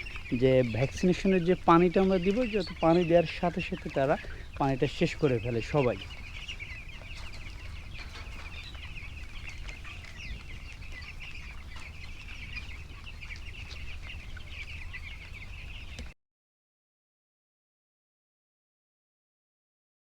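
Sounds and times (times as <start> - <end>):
chicks peeping: 0.0 - 16.2.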